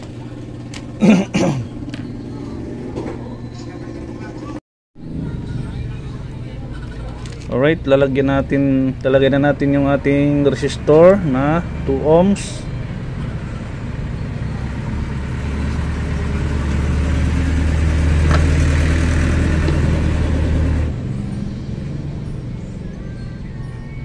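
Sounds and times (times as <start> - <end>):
deep engine-like rumble: 0.0 - 24.0.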